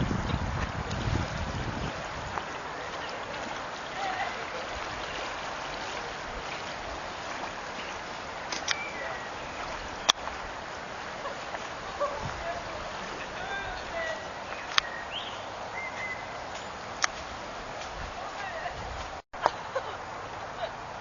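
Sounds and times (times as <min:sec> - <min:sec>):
water rushing through a drain: 0:00.0 - 0:17.7.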